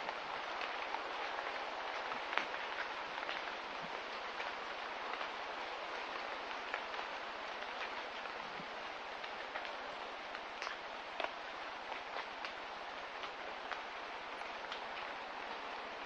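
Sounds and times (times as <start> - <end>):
faint drips and ticks: 0.0 - 16.0
light rain falling: 0.0 - 16.0.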